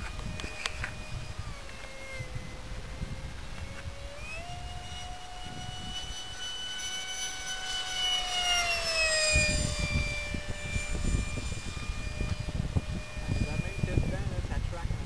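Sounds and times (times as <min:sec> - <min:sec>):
model jet fan whine: 0:00.0 - 0:15.0
wind buffeting microphone: 0:00.0 - 0:15.0.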